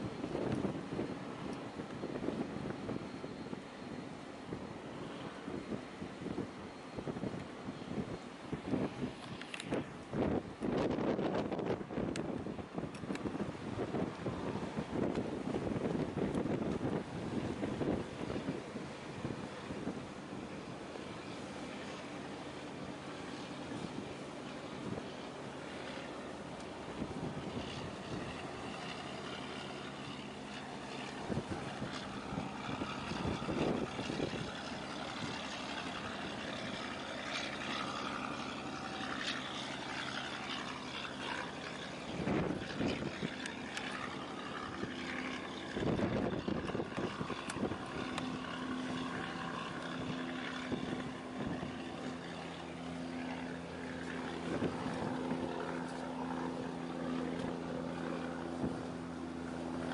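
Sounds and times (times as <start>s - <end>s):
low diesel engine drone: 0.0s - 59.9s
wind buffeting microphone: 0.0s - 59.9s.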